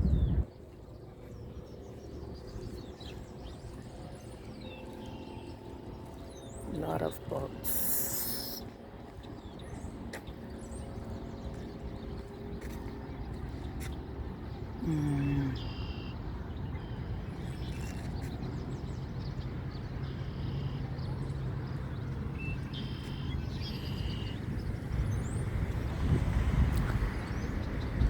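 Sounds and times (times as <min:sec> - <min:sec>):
low engine hum: 0:00.0 - 0:28.0
waterside background wash: 0:00.0 - 0:28.0.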